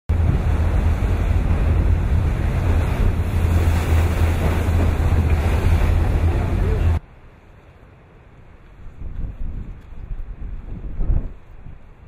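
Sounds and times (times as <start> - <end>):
wind buffeting microphone: 0.1 - 7.0, 8.8 - 12.0
choppy sea water rushing: 0.1 - 12.0.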